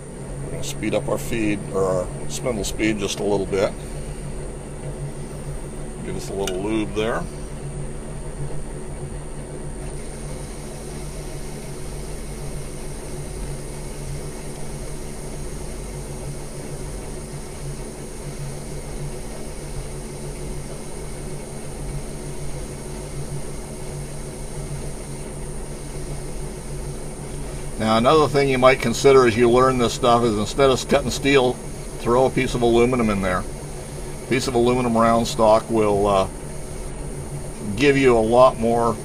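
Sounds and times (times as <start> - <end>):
lathe motor hum: 0.0 - 39.0.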